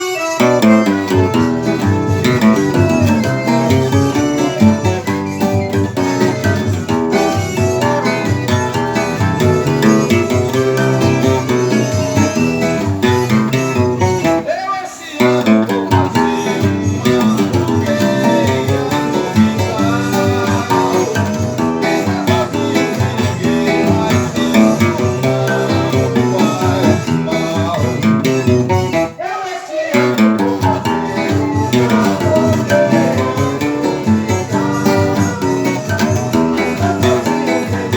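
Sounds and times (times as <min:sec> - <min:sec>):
acoustic guitar picked tune: 0:00.0 - 0:37.9.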